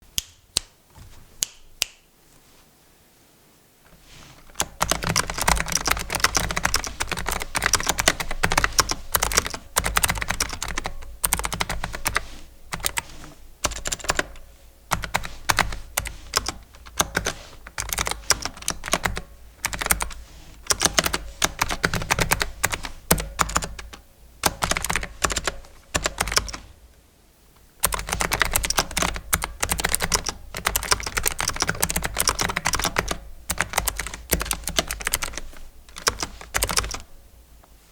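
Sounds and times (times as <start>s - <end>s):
mechanical keyboard typing: 4.4s - 26.7s, 27.8s - 37.1s.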